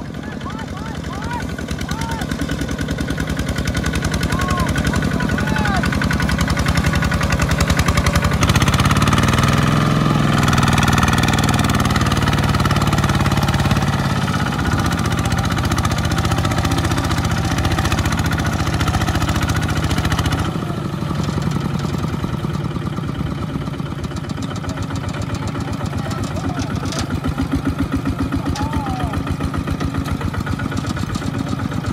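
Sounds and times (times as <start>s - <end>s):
diesel engine running under load: 0.0s - 31.9s.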